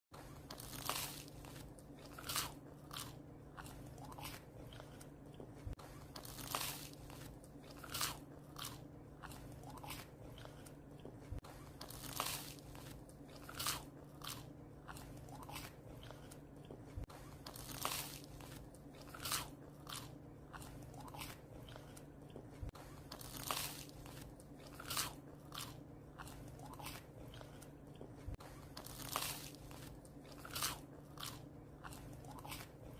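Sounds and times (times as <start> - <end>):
steady low hum: 0.1 - 32.9
dog crunching bread: 0.4 - 32.9.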